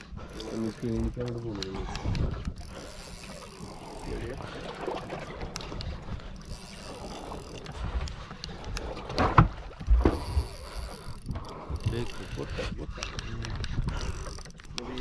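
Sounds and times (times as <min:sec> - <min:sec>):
water on boat: 0:00.0 - 0:15.0
wind: 0:00.0 - 0:15.0.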